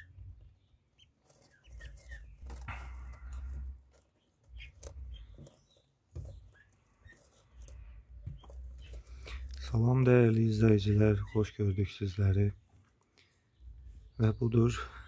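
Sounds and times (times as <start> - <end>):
ducklings peeping: 0.0 - 15.0.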